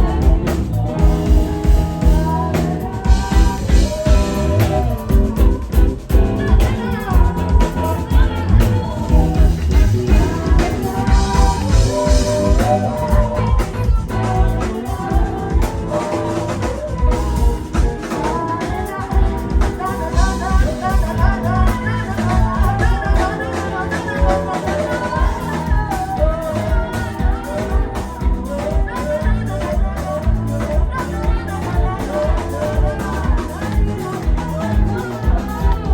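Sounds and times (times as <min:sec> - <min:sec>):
live band playing: 0:00.0 - 0:35.9
person singing: 0:00.0 - 0:35.9.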